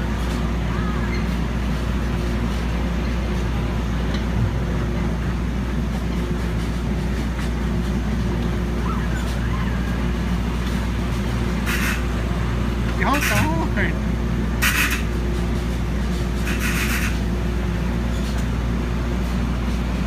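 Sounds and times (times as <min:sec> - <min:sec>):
fairground machinery drone: 0:00.0 - 0:20.0.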